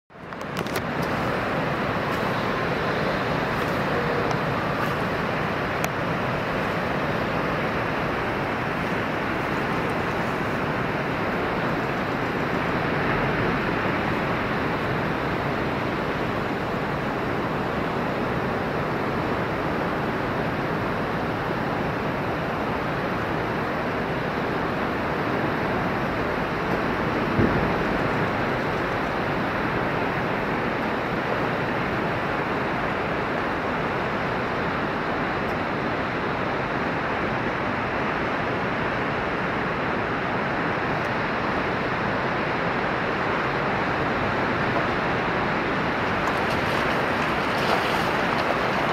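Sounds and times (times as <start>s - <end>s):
ocean surf roaring: 0.2s - 48.9s.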